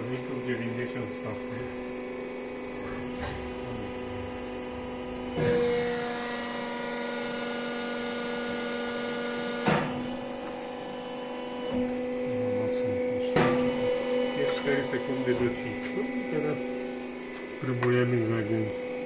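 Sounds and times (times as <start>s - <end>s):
hydraulic press humming: 0.0s - 19.0s.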